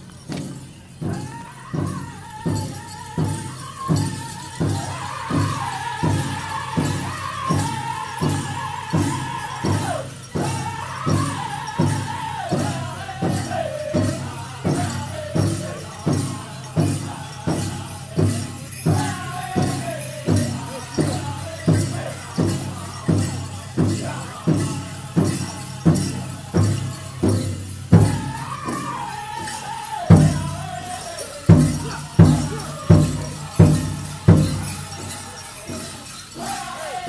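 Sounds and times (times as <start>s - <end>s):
bells jingling: 0.0s - 37.0s
big drum steady beat: 0.0s - 37.0s
high singing voices: 0.0s - 37.0s.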